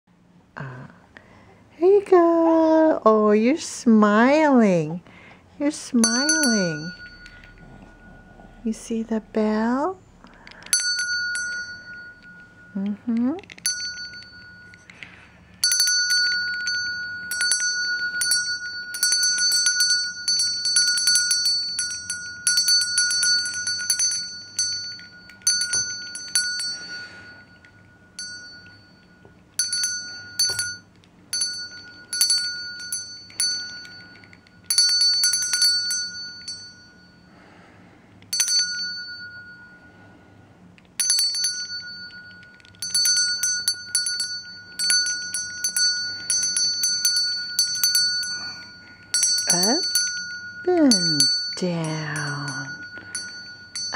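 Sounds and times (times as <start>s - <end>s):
small hand bell ringing: 5.8s - 9.4s, 10.4s - 40.3s, 40.9s - 53.9s.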